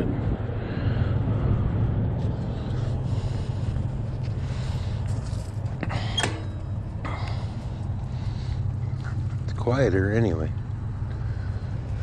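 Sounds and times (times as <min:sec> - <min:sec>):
bicycle tire road noise: 0:00.0 - 0:12.0
wind rumble on microphone: 0:00.0 - 0:12.0.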